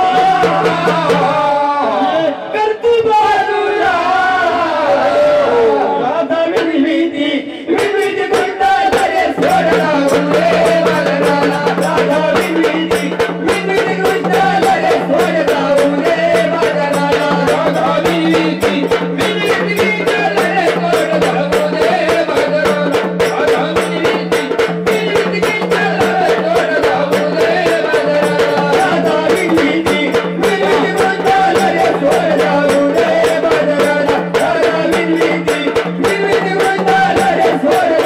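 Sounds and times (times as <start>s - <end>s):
fast percussion beat: 0.0s - 2.2s, 6.1s - 38.0s.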